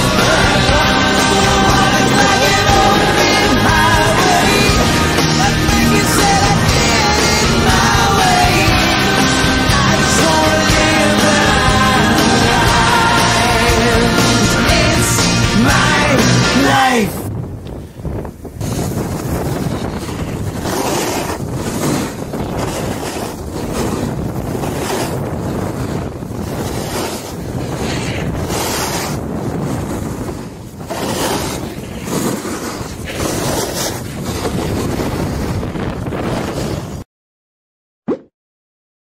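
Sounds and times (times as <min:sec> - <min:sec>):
snowboard scraping packed snow: 0:00.0 - 0:17.1, 0:17.8 - 0:37.0
wind rushing over microphone: 0:00.0 - 0:37.1.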